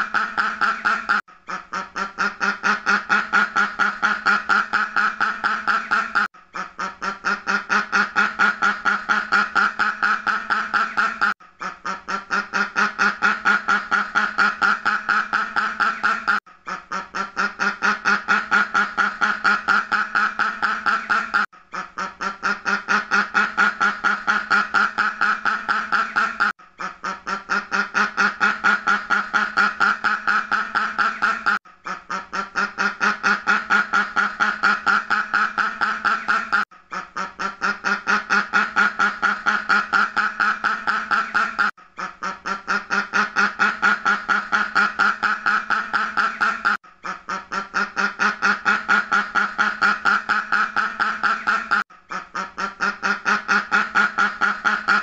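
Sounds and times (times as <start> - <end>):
ducks quacking: 0.0 - 55.0.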